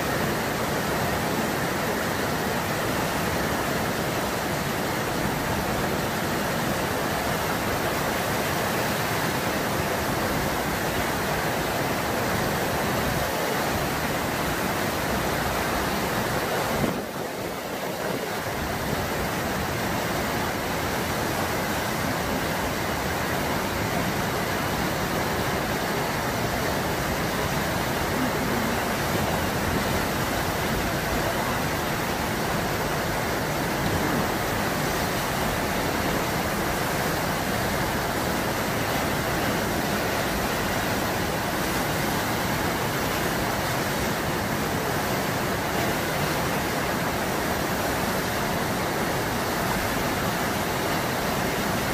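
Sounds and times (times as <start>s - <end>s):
whitewater rushing: 0.0s - 51.9s.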